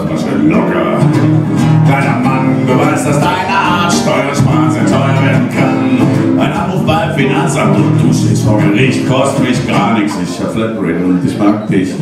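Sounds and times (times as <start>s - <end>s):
acoustic guitar strumming: 0.0s - 10.6s.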